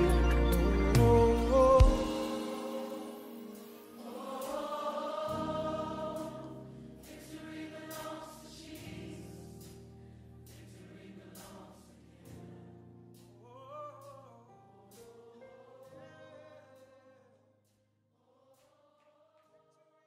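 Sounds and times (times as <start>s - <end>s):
choir singing gospel: 0.0s - 17.4s, 18.2s - 20.0s.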